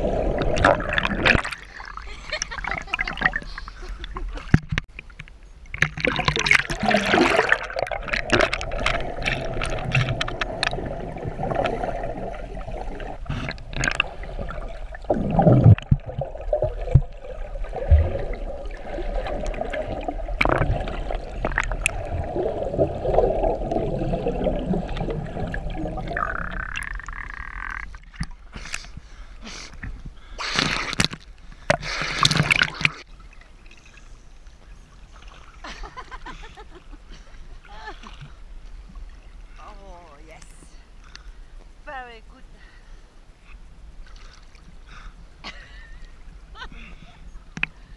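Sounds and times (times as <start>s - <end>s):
water splashes: 0.0s - 29.1s, 30.3s - 41.4s
water gurgling and sloshing: 0.0s - 47.9s.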